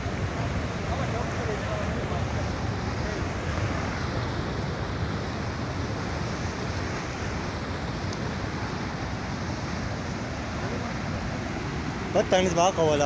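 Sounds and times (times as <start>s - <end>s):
flood water rushing: 0.0s - 13.0s.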